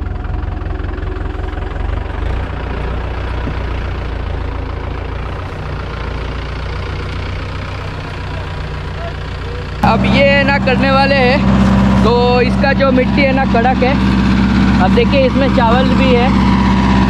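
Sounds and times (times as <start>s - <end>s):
tiller blades churning soil: 0.0s - 17.0s
tractor engine running: 0.0s - 17.0s.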